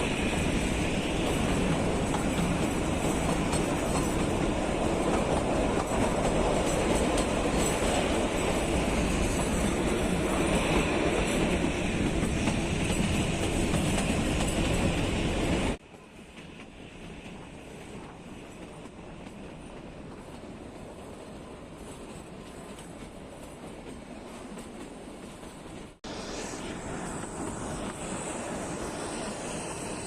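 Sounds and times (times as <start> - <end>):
train wheels clickety-clack: 0.0 - 26.0.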